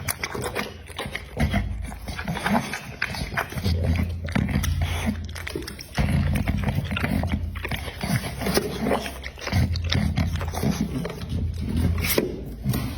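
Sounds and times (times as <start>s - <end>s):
dog chewing meat: 0.0s - 12.9s.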